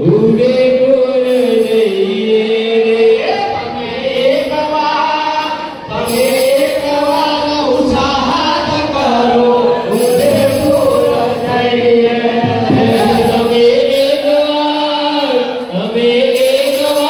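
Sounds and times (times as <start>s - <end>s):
group singing devotional chant: 1.4s - 17.0s.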